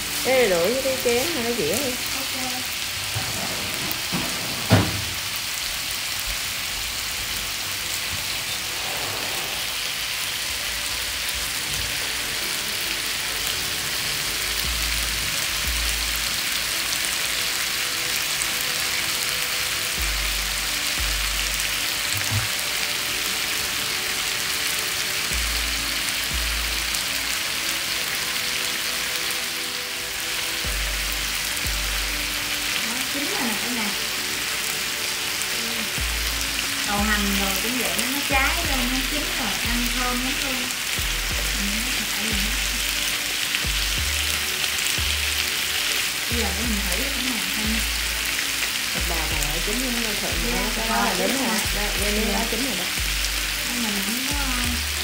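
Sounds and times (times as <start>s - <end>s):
meat and vegetables sizzling on griddle: 0.0s - 55.0s.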